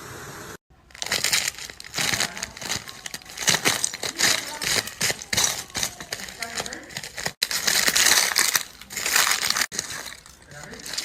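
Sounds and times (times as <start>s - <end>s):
crunching and crackling: 0.7s - 11.0s.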